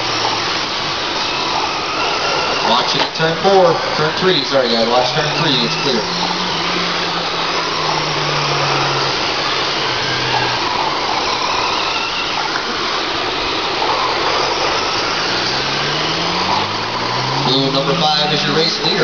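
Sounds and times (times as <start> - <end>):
small motors whining: 0.0 - 19.0
steady low hum: 0.0 - 19.0
trucks on dirt track: 0.0 - 19.0.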